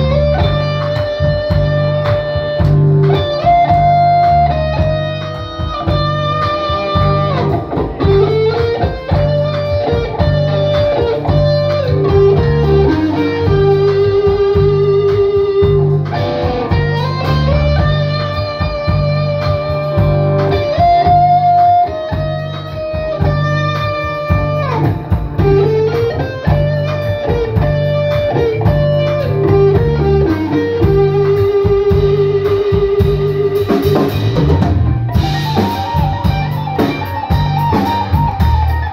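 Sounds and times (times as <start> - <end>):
drums: 0.0 - 38.9
electric guitar lead: 0.0 - 38.9
pulsing bass line: 0.0 - 38.9.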